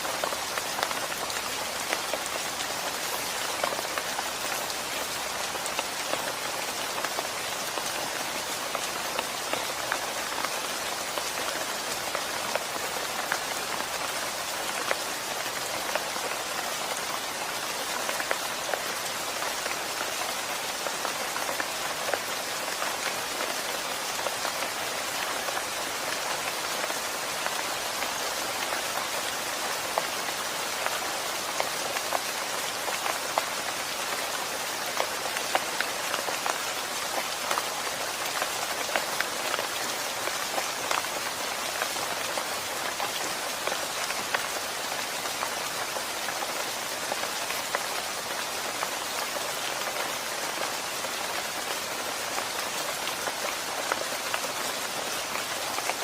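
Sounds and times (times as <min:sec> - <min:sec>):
rain on hard surfaces: 0:00.0 - 0:56.0.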